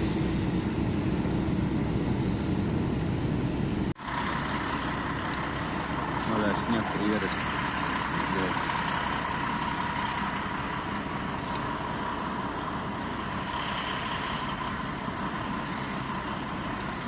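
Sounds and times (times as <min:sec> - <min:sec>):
faint constant whine: 0:00.0 - 0:17.0
truck engine: 0:00.0 - 0:17.0.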